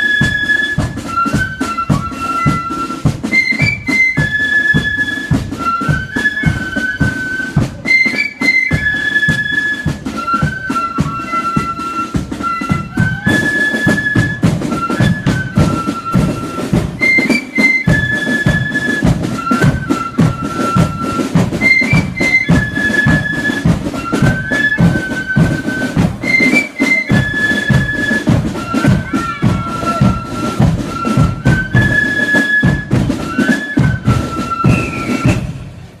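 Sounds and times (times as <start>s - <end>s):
flute melody: 0.0s - 36.0s
steady drumbeat: 0.0s - 36.0s.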